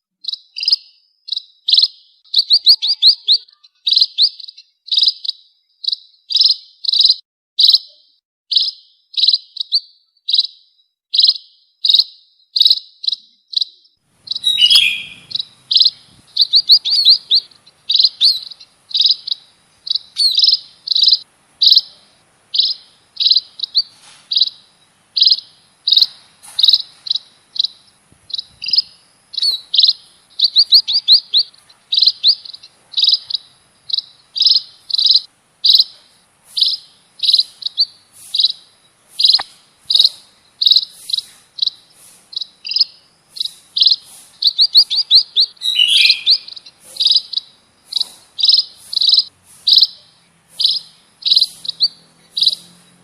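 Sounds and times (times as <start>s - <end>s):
songbird chirping: 0.0s - 53.0s.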